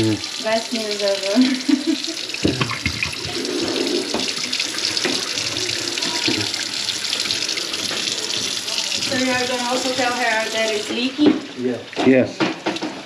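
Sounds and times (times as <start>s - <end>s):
faucet running water into sink: 0.0s - 13.0s.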